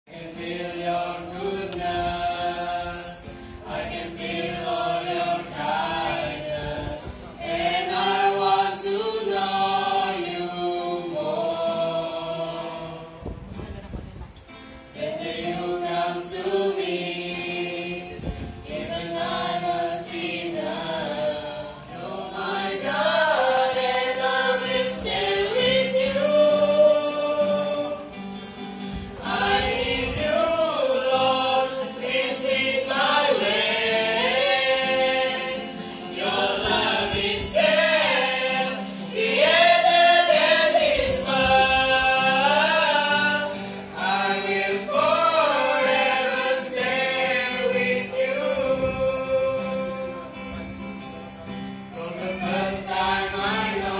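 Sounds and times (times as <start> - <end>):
group singing gospel song: 0.1 - 13.6, 14.8 - 53.9
acoustic guitar: 0.1 - 53.9.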